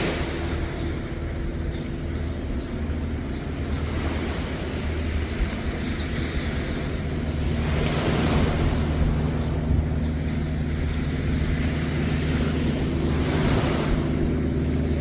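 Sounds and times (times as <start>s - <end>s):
low engine hum: 0.0s - 15.0s
sea waves washing on beach: 0.0s - 15.0s
wind buffeting microphone: 0.0s - 15.0s.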